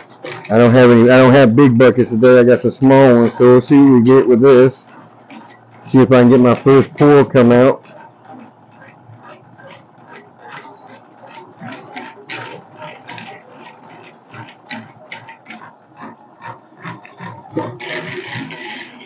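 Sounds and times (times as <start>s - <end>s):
crank gears clicking and grinding: 0.0s - 19.0s.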